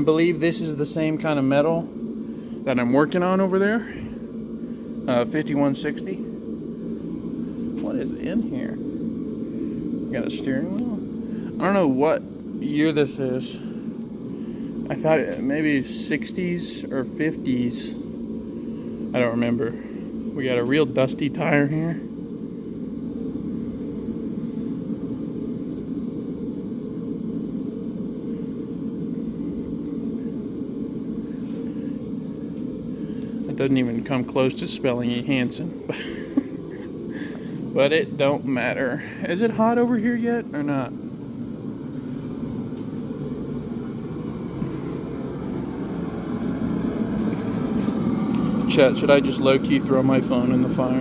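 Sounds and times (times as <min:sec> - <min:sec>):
forge rumbling: 0:00.0 - 0:51.0.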